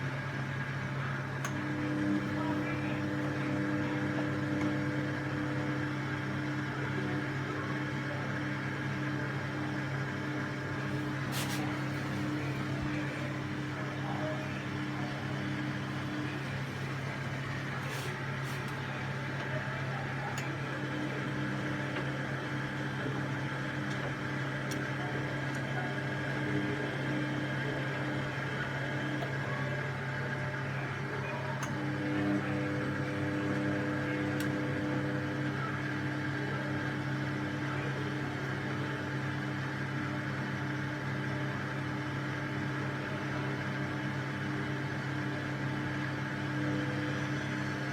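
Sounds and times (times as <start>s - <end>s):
washing machine motor hum: 0.0s - 47.9s.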